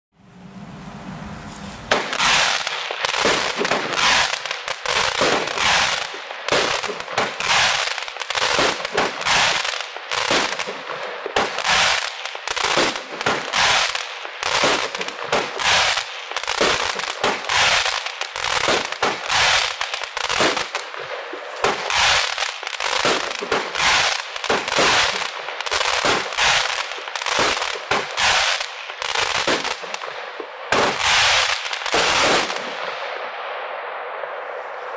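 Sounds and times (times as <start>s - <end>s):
fireworks shots and bursts: 1.6s - 34.2s.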